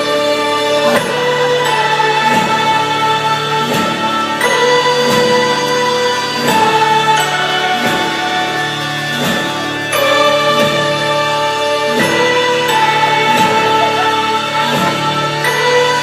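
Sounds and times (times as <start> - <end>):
choir-like chords: 0.0 - 16.0.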